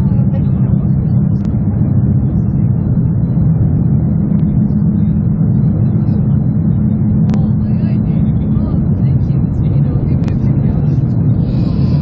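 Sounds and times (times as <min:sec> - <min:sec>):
train cabin low rumble: 0:00.0 - 0:12.0.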